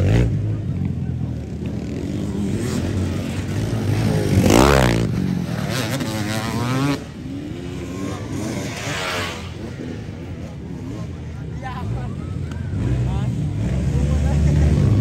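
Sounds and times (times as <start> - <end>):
dirt bike engine revving: 1.4 - 15.0.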